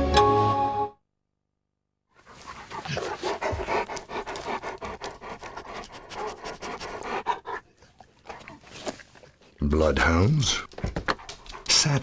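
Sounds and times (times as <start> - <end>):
dogs sniffing and panting: 2.2 - 12.0.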